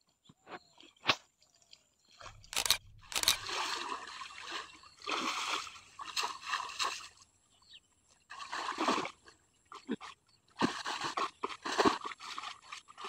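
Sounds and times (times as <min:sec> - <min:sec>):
water sloshing and splashing: 0:00.9 - 0:07.3, 0:08.3 - 0:13.0.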